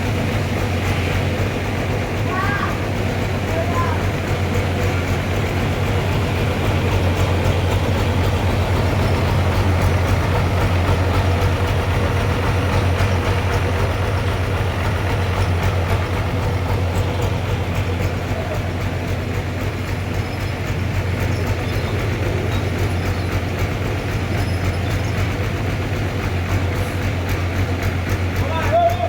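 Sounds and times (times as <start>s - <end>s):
sawmill sawing log: 0.0s - 29.0s.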